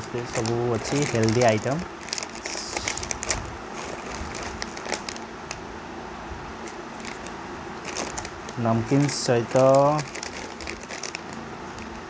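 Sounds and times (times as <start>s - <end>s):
plastic packets crinkling: 0.0s - 5.6s, 6.6s - 12.0s.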